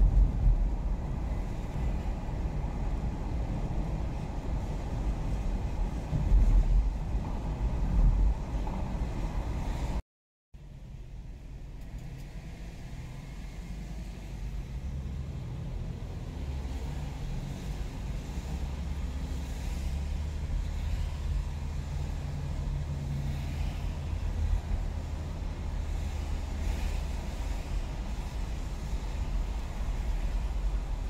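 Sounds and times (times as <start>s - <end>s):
car cabin road and engine rumble: 0.0s - 10.0s, 10.6s - 31.0s.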